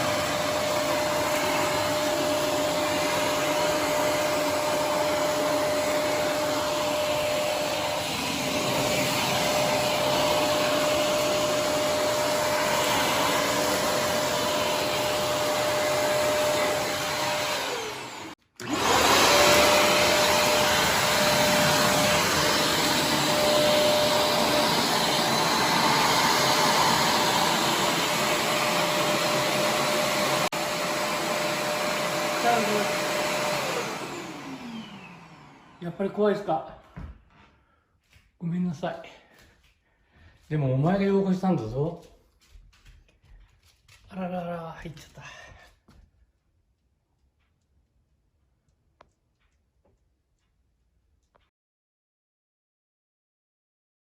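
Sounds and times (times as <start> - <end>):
vacuum cleaner running: 0.0 - 37.8, 38.5 - 45.6.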